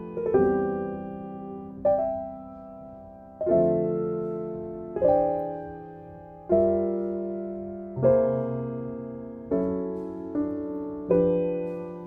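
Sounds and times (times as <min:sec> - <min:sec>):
slow gentle piano chords: 0:00.0 - 0:12.0.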